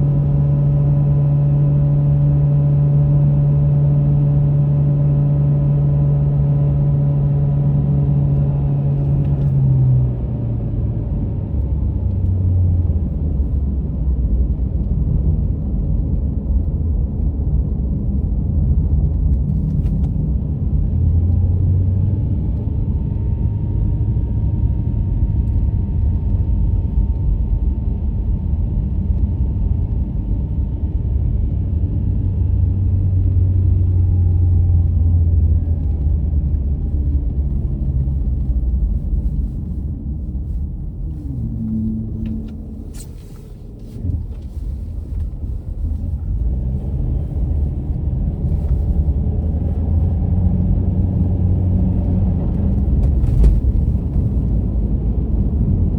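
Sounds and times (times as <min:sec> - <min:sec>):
car driving tyre and engine rumble: 0:00.0 - 0:55.9.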